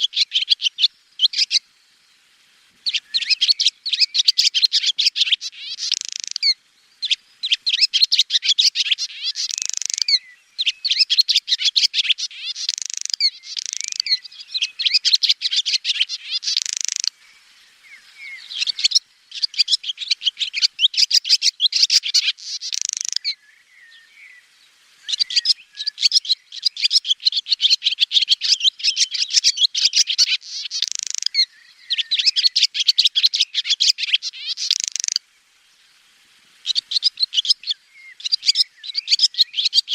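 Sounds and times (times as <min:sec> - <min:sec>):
swallows twittering: 0:02.8 - 0:24.5, 0:25.1 - 0:35.2, 0:36.6 - 0:39.9.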